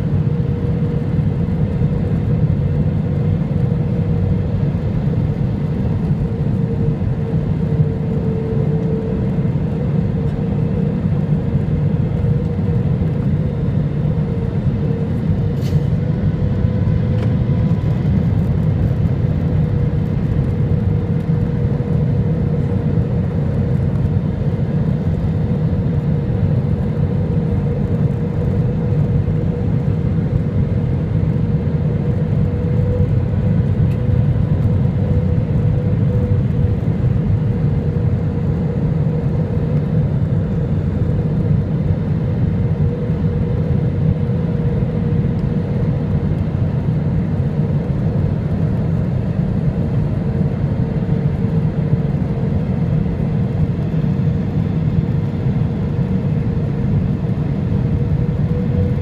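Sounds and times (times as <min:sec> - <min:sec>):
aircraft cabin rumble: 0:00.0 - 0:59.0
mid-pitched hum: 0:00.0 - 0:59.0.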